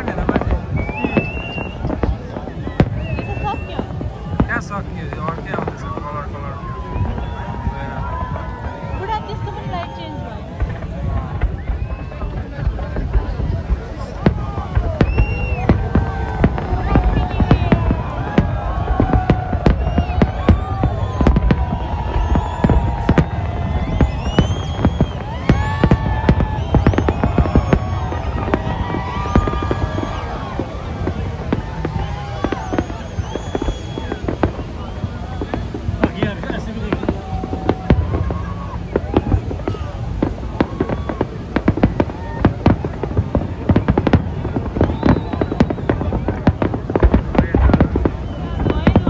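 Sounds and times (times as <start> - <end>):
fireworks bangs: 0.0 - 49.0
low rumble of distant bursts: 0.0 - 49.0.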